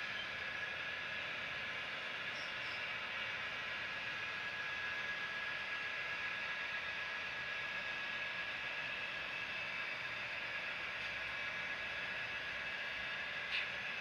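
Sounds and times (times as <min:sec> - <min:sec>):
faint high whine: 0:00.0 - 0:14.0
model train wheels rolling: 0:00.0 - 0:14.0.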